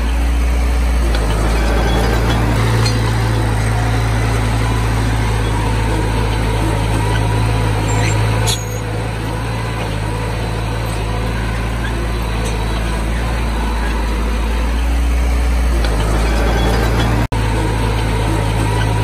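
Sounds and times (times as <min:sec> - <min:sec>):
bulldozer diesel engine drone: 0:00.0 - 0:19.0.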